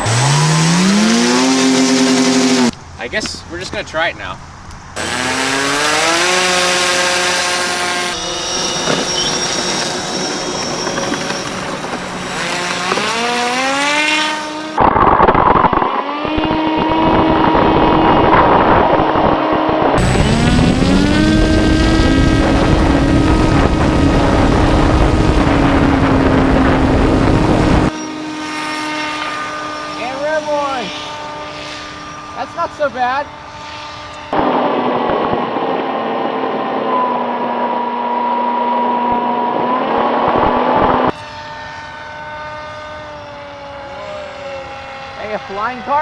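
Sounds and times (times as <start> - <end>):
electric motor and propeller whining: 0.0 - 2.8, 4.8 - 46.0.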